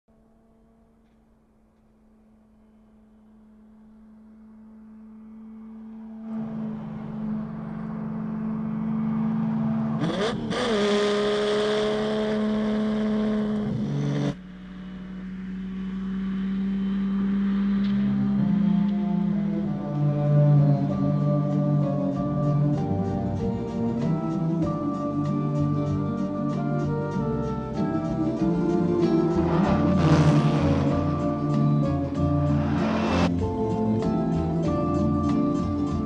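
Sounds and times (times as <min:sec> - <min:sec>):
car engine running at speed: 0:00.1 - 0:36.0.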